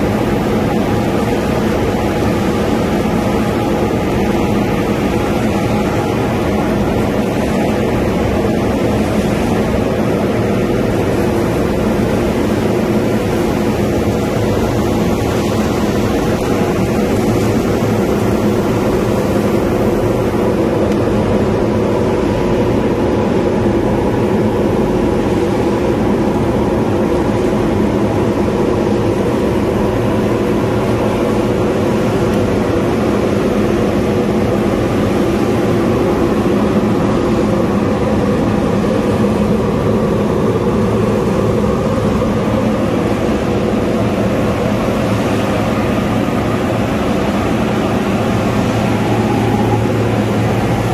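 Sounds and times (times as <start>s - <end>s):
conveyor line mechanical drone: 0.0s - 50.9s
low hum: 0.0s - 50.9s.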